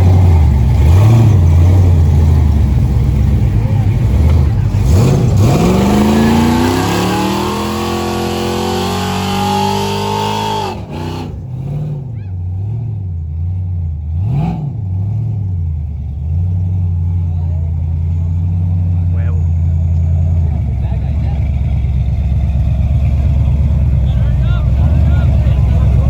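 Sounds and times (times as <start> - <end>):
vehicle engine accelerating: 0.0 - 26.0.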